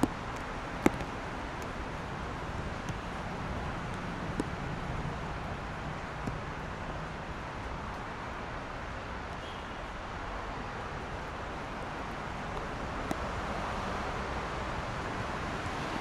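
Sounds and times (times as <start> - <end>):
traffic on wet roads: 0.0 - 16.0.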